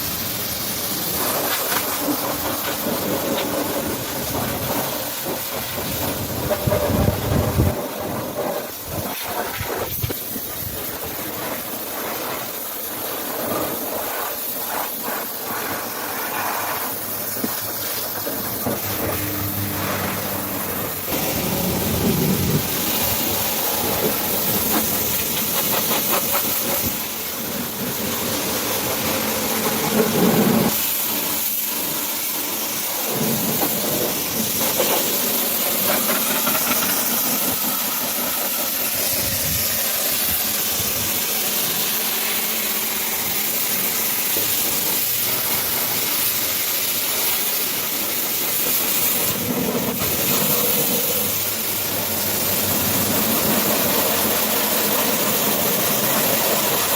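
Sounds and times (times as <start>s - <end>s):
pressure washer spraying water: 0.0s - 56.9s.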